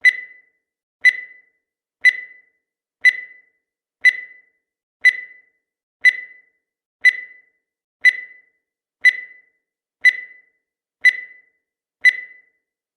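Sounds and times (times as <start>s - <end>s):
short high timer beeps: 0.0s - 12.6s.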